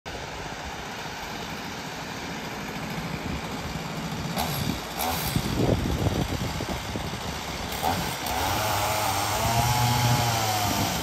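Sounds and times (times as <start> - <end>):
chainsaw engine running: 0.2 - 11.0.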